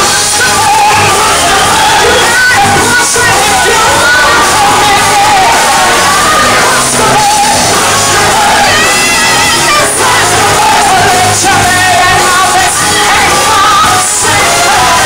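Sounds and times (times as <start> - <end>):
backing chorus singing: 0.0 - 15.0
live band playing: 0.0 - 15.0
singers shouting: 0.0 - 15.0
woman singing lead: 0.0 - 15.0.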